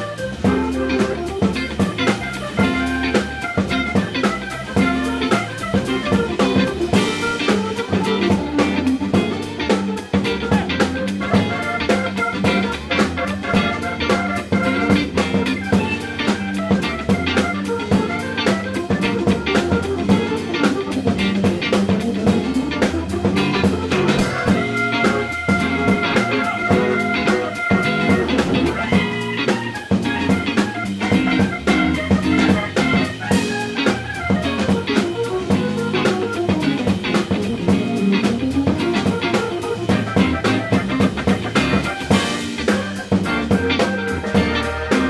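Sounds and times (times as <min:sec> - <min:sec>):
guitar: 0:00.0 - 0:45.0
steady drum beat: 0:00.0 - 0:45.0.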